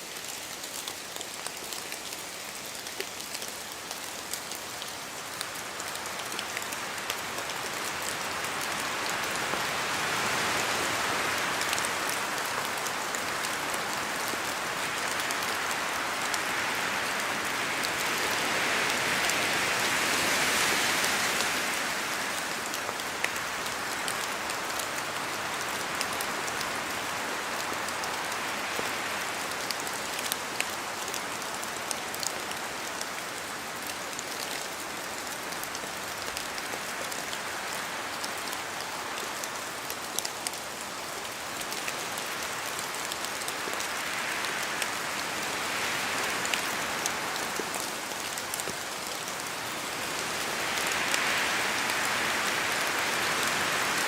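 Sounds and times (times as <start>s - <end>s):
raindrops dripping from trees: 0.0s - 19.9s, 21.0s - 54.0s
rain falling in forest: 0.0s - 54.0s.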